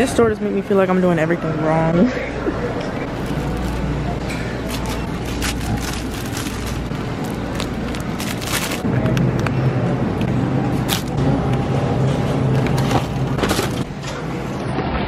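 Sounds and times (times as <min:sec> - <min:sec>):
steady low hum: 0:01.1 - 0:14.7.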